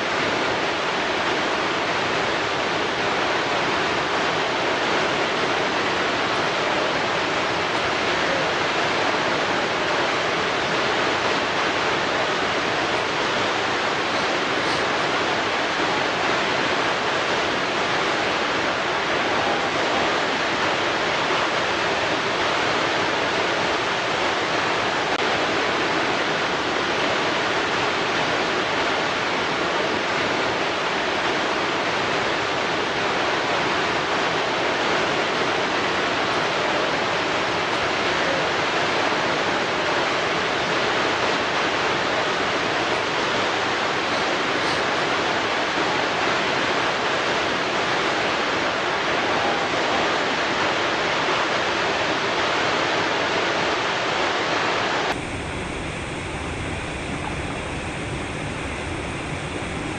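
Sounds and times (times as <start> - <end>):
water rushing against rocks: 0.0 - 59.9.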